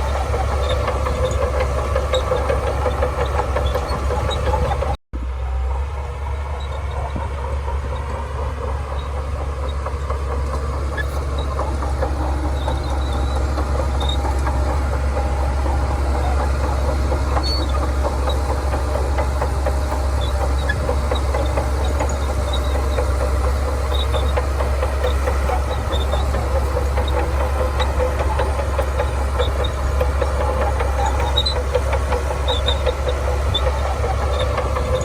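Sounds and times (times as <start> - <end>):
bulldozer diesel engine under load: 0.0 - 35.0
steel tracks clattering: 6.1 - 35.0.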